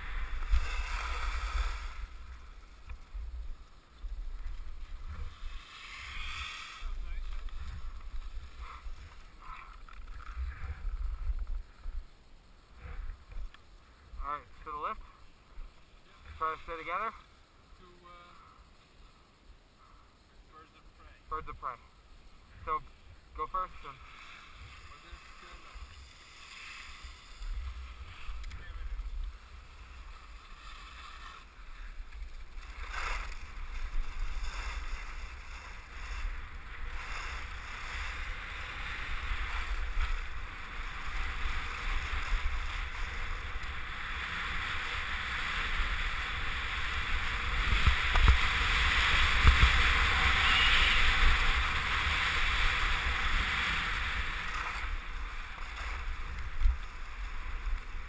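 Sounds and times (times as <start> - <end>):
skis scraping over snow: 0.0 - 11.9, 22.6 - 58.0.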